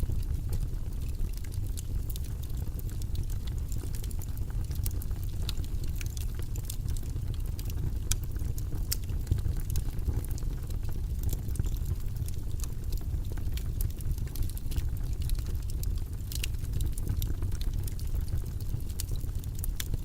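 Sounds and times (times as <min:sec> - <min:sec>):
low rumbling background noise: 0:00.0 - 0:20.0
small irregular clicks and ticks: 0:00.0 - 0:20.0.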